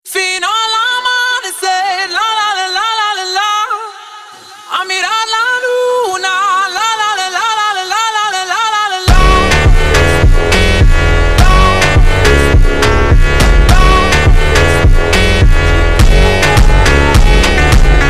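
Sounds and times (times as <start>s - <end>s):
person singing unaccompanied: 0.0s - 18.0s.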